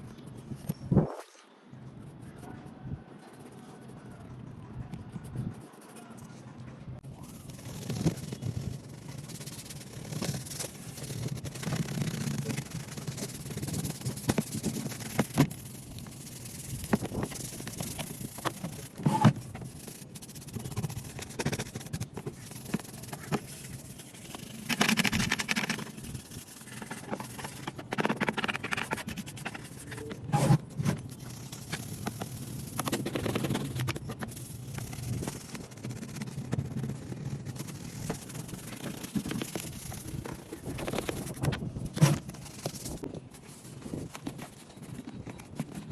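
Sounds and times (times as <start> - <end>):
hand scraping on a box: 7.4 - 45.9.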